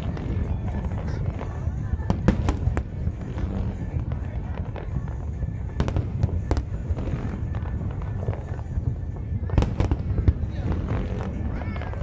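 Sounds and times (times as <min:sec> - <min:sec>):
fireworks rumbling: 0:00.0 - 0:12.0
fireworks sharp cracks: 0:00.0 - 0:12.0.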